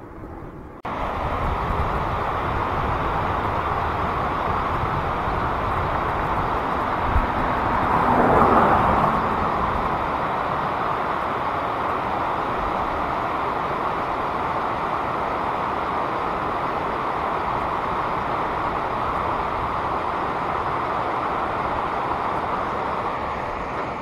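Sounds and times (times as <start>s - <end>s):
water rushing over rocks: 0.9s - 24.0s.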